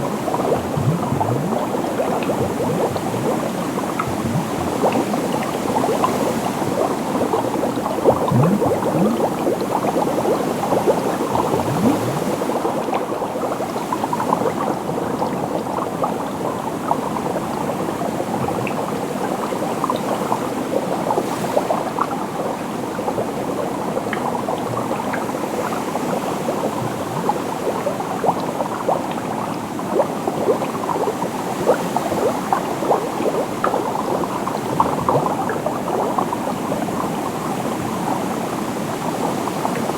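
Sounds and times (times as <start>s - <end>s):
water bubbling and gurgling: 0.0s - 39.9s.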